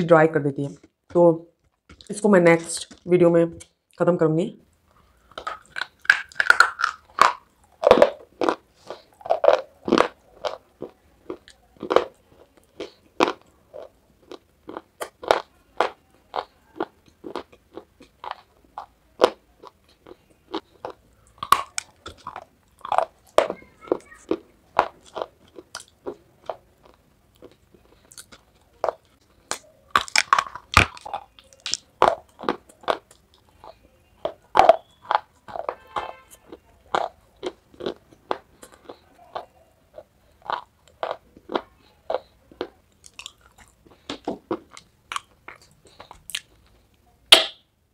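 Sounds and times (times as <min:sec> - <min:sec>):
crunching and chewing chalk: 0:00.7 - 0:03.8, 0:04.7 - 0:47.7.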